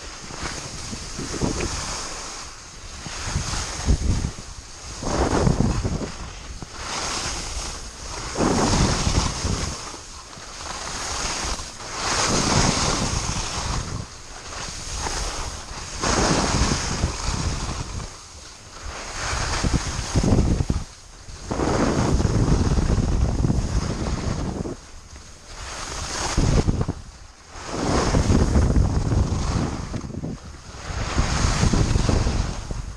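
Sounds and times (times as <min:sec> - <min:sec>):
skis scraping on snow: 0:00.0 - 0:32.9
wind on microphone: 0:00.0 - 0:32.9.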